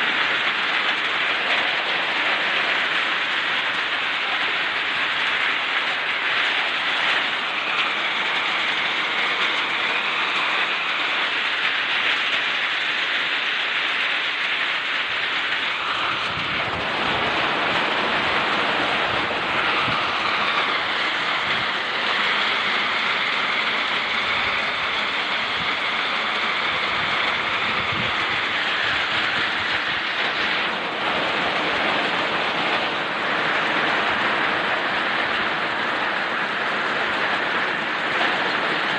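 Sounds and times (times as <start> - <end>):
wind and heavy rain roaring: 0.0 - 38.9.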